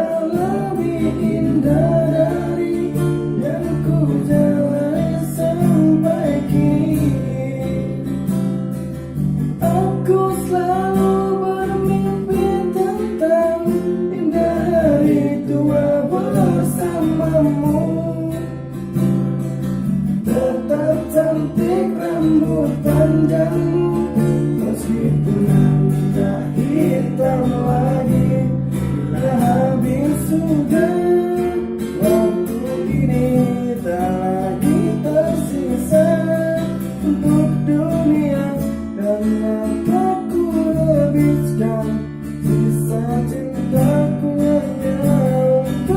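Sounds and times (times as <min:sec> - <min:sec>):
man singing a pop ballad: 0:00.0 - 0:08.7, 0:09.5 - 0:19.1, 0:20.1 - 0:45.9
strummed acoustic guitar: 0:00.0 - 0:45.9.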